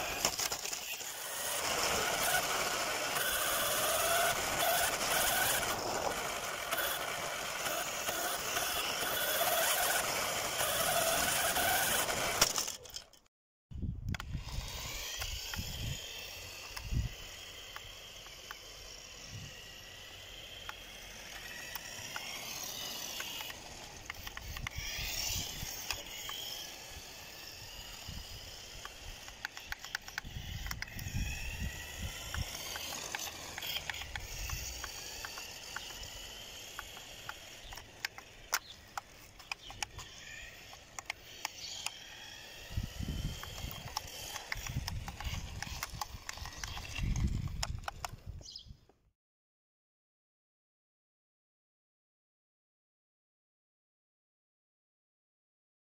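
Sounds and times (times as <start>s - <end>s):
electric toy car motor whine: 0.0s - 13.2s, 13.8s - 48.7s
sharp clicks: 0.0s - 13.2s, 14.0s - 19.3s, 20.4s - 48.6s.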